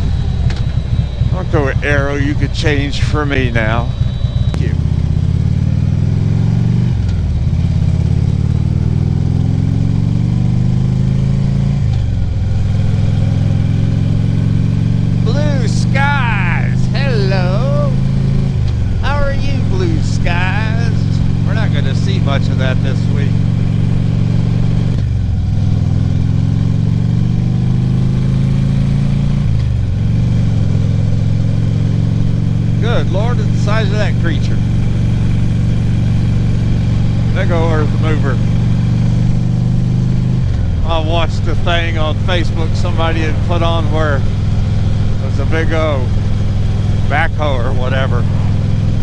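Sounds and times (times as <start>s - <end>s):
motorcycle engine shifting up: 0.0s - 49.0s.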